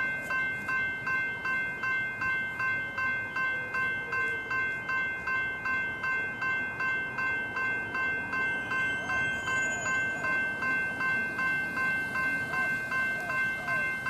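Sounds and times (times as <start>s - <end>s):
level crossing bells ringing: 0.0s - 14.0s.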